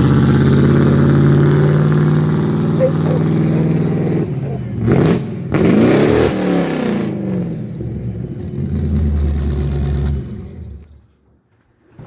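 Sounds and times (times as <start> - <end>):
pickup truck engine revving: 0.0 - 10.9.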